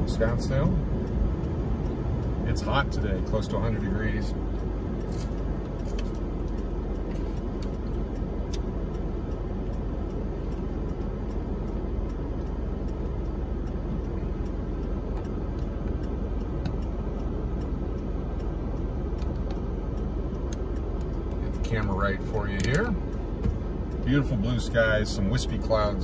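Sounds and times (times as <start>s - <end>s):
car cabin rumble: 0.0s - 26.0s.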